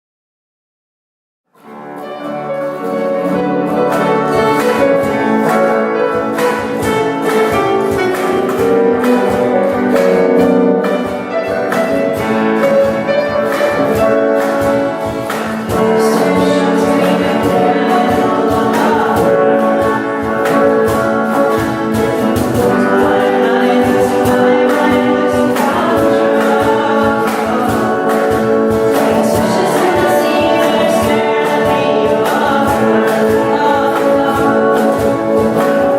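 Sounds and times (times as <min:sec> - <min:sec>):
choir singing: 0:01.6 - 0:35.9.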